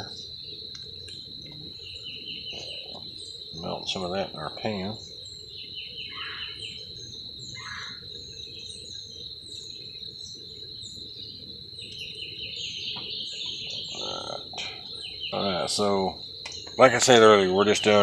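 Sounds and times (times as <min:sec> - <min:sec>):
birds chirping: 0:00.0 - 0:18.0
insects trilling: 0:00.0 - 0:18.0
loud bird calls: 0:00.0 - 0:18.0.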